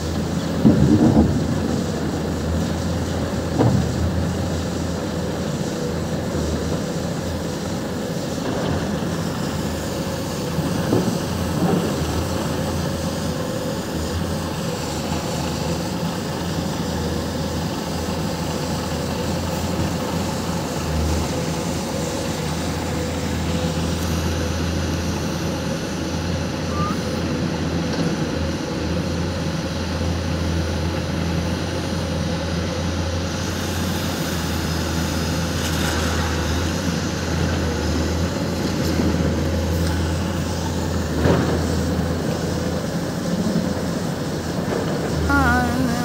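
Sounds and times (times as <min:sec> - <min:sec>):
diesel engine drone: 0:00.0 - 0:46.0
faint steady whine: 0:00.0 - 0:46.0.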